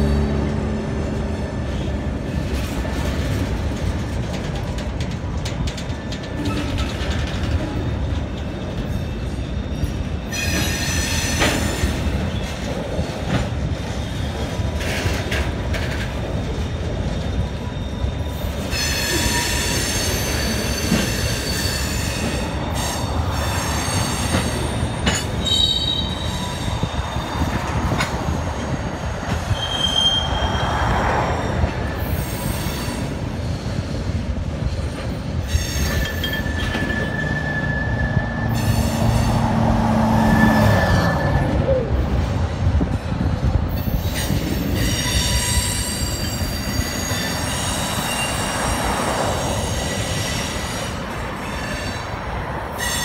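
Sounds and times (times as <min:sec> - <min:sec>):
freight train rumbling past: 0:00.0 - 0:53.0
train wheels squealing: 0:05.5 - 0:42.6, 0:43.7 - 0:53.0.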